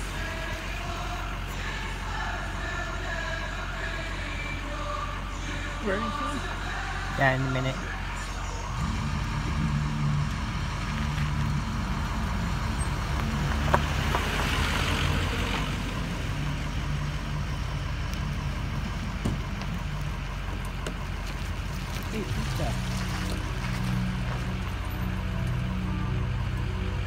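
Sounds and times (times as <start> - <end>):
cars driving slowly past: 0.0 - 27.0.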